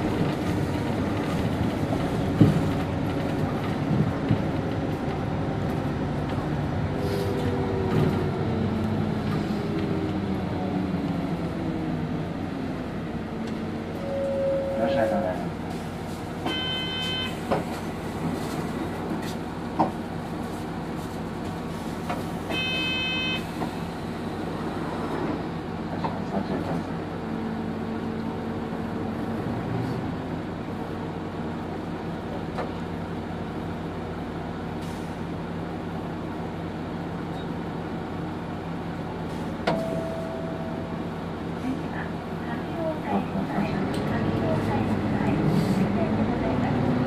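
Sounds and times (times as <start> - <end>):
bus drivetrain hum: 0.0 - 47.0.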